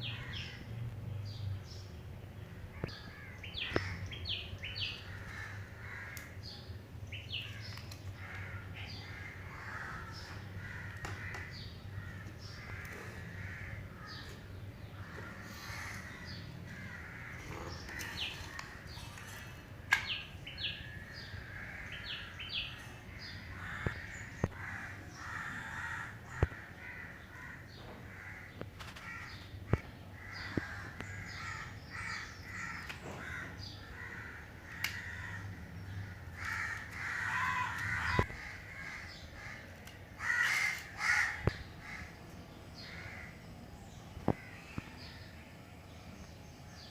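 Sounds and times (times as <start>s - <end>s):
birds calling: 0.0s - 46.9s.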